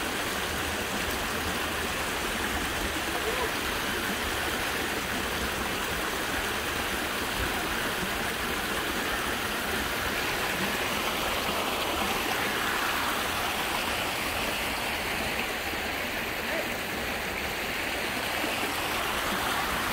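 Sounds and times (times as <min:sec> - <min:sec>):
stream flowing over boulders: 0:00.0 - 0:19.9.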